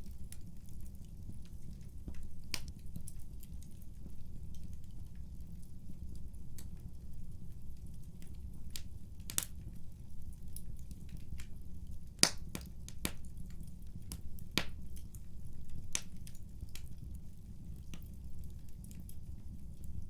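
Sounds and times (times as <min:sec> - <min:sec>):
fire pops and snaps: 0:00.0 - 0:06.9, 0:07.8 - 0:20.0
wood fire crackling: 0:00.0 - 0:20.0.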